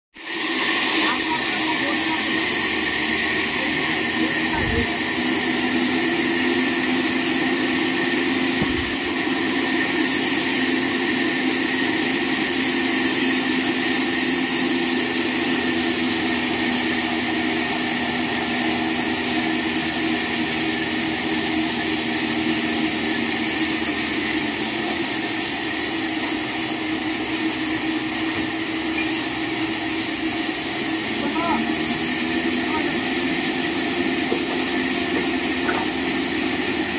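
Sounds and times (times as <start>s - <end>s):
electric motor hum: 0.2s - 36.9s
saw blade whine: 0.2s - 36.9s.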